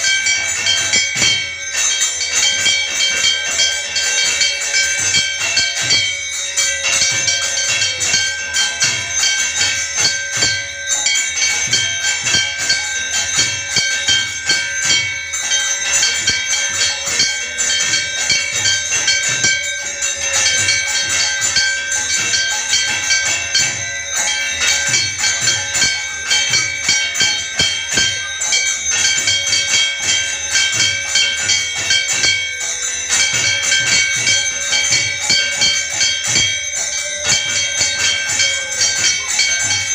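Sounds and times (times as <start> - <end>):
cymbals clashing: 0.0 - 39.9
temple bells ringing: 0.0 - 39.9.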